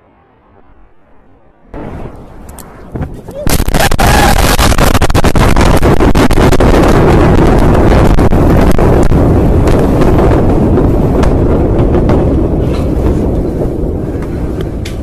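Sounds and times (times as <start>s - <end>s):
explosion roar: 0.0s - 14.8s
wind buffeting microphone: 1.8s - 15.0s.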